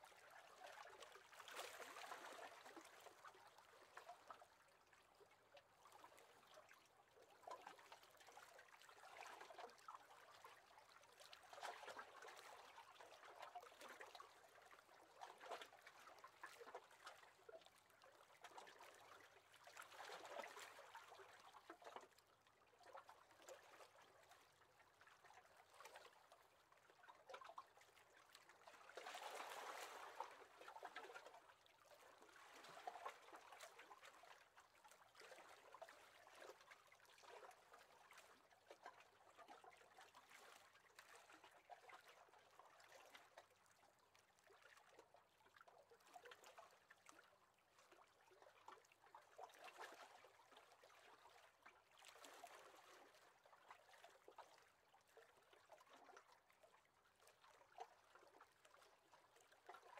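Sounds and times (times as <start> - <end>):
small waves lapping against boat: 0.0 - 59.9.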